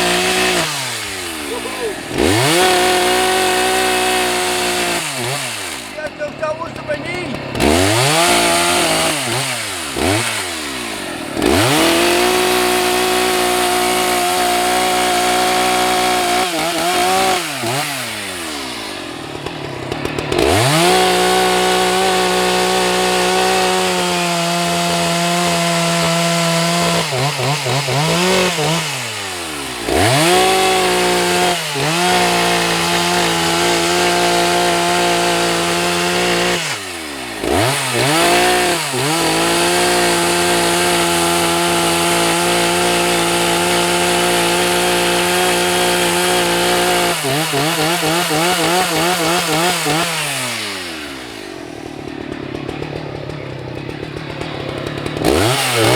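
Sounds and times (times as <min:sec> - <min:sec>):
chainsaw cutting wood: 0:00.0 - 0:55.9
chainsaw throttle blips: 0:00.0 - 0:55.9.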